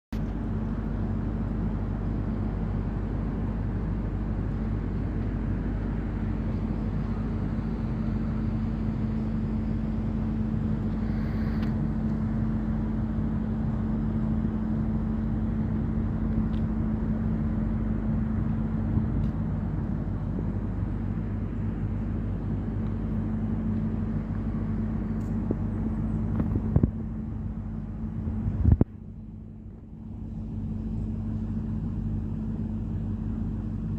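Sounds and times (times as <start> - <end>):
drone humming: 1.4 - 33.2.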